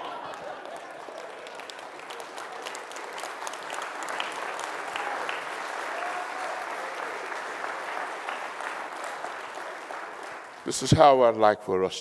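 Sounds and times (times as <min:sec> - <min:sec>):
people clapping: 0:00.0 - 0:11.1.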